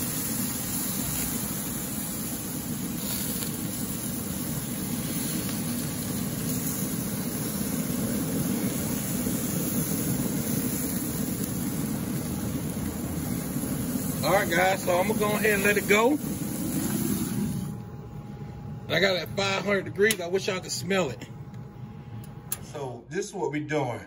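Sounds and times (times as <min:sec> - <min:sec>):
constant hiss: 0:00.0 - 0:23.2
grill fan whirring: 0:00.0 - 0:24.0.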